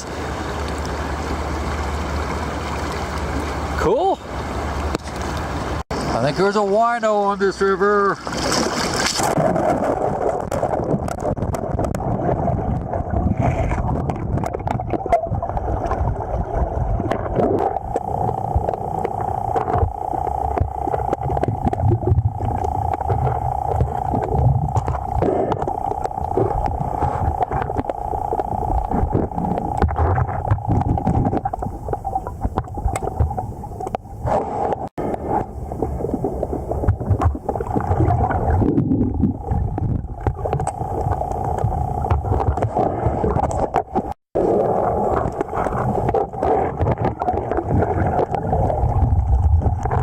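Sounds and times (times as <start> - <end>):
underwater river current: 0.0 - 50.0.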